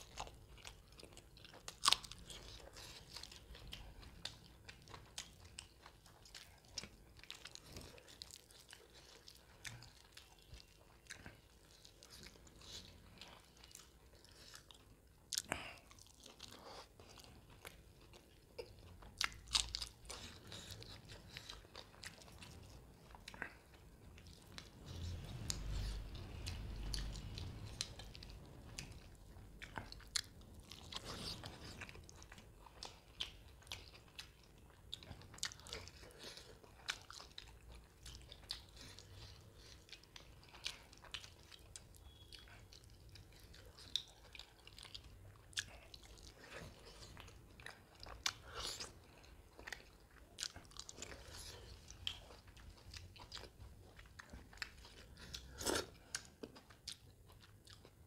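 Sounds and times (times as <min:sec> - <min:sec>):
chewing with wet smacks: 0:00.0 - 0:58.0.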